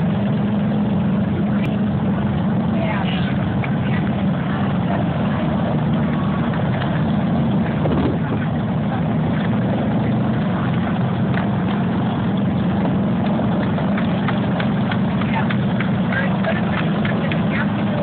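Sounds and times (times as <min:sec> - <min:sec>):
motorcycle engines droning: 0:00.0 - 0:18.0.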